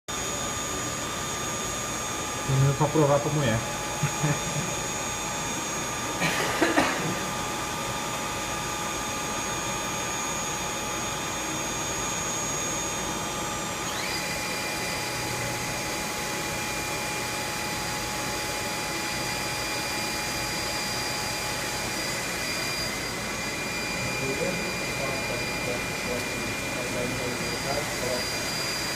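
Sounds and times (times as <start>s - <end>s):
cnc machine whine: 0.1s - 28.9s.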